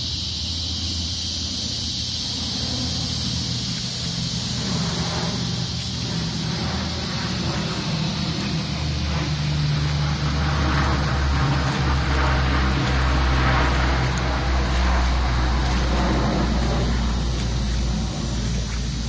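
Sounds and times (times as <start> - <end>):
low engine hum: 0.0 - 19.0
floodwater rushing: 2.2 - 19.0.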